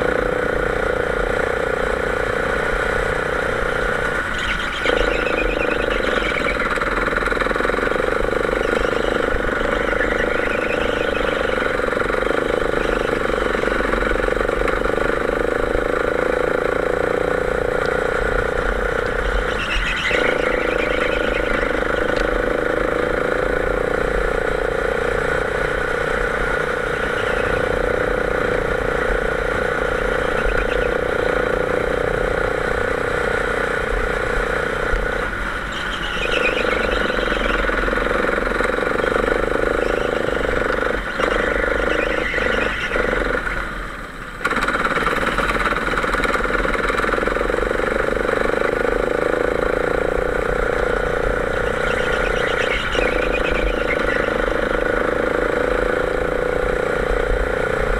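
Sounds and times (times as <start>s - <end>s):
kart engine running: 0.0s - 57.9s.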